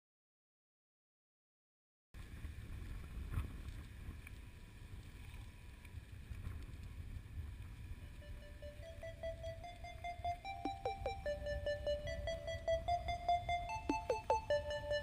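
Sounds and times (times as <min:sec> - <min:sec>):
wind buffeting microphone: 0:02.2 - 0:15.0.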